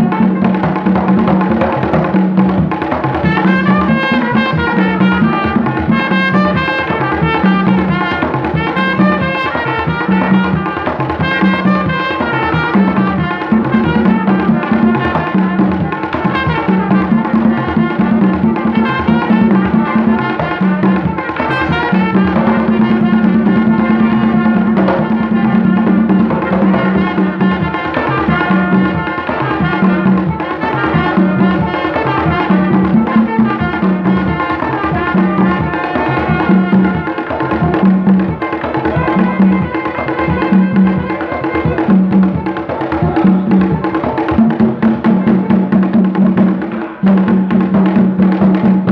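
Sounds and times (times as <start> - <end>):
hand drums playing rhythm: 0.0 - 48.9
trumpet playing: 0.0 - 48.9.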